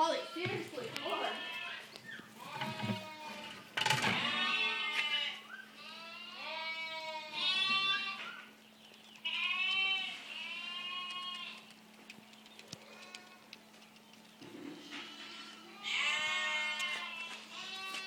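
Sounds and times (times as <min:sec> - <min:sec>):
young farm animals bleating: 0:00.0 - 0:11.8, 0:12.7 - 0:13.6, 0:14.7 - 0:18.0.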